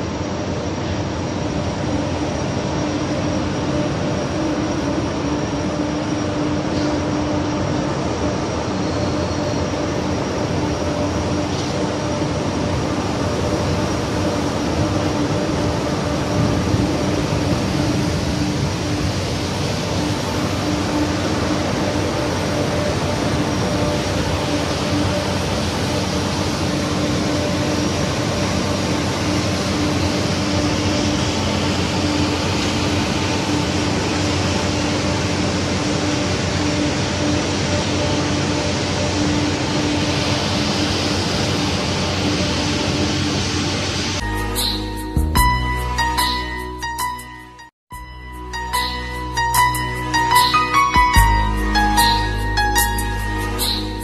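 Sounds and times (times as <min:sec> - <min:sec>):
machinery humming: 0:00.0 - 0:47.0.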